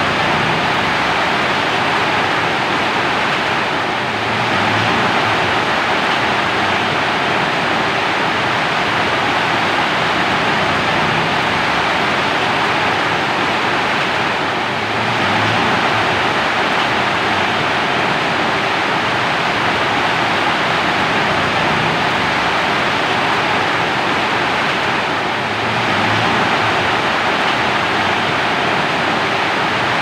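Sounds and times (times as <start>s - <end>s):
heavy rainfall: 0.0s - 30.0s.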